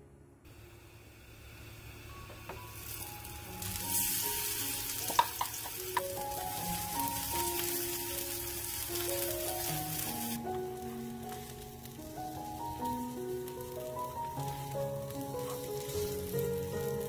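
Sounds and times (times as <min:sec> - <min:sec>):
batter sizzling in hot oil: 0:00.6 - 0:17.0.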